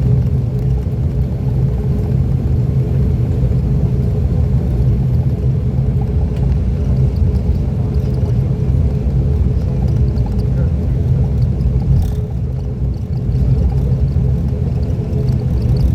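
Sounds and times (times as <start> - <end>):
low cabin hum: 0.0 - 15.9
turboprop engines droning: 0.0 - 15.9.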